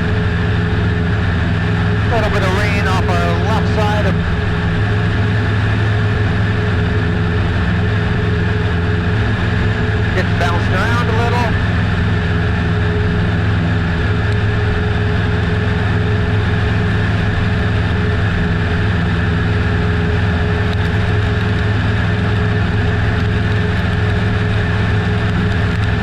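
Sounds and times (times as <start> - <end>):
propeller plane engine droning: 0.0 - 26.0.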